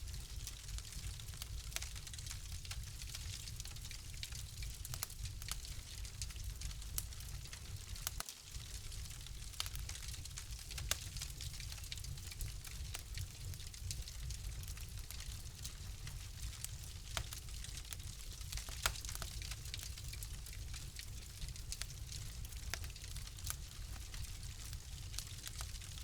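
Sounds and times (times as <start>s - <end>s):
fire crackling in fireplace: 0.0s - 26.0s.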